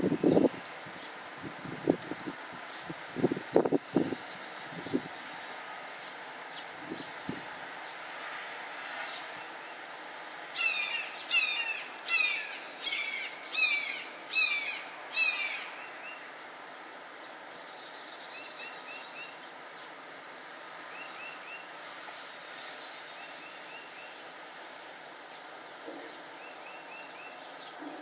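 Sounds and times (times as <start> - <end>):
wind hiss: 0.0 - 28.0.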